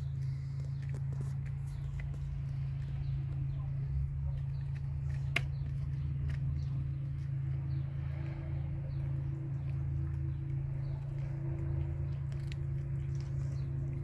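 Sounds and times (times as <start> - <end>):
cats chewing wet food: 0.0 - 14.0
steady low hum: 0.0 - 14.0.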